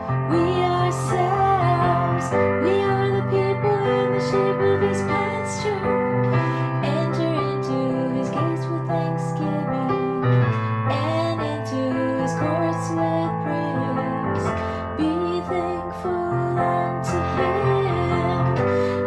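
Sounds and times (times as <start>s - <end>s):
piano chords: 0.0s - 19.0s
woman singing: 0.0s - 19.0s.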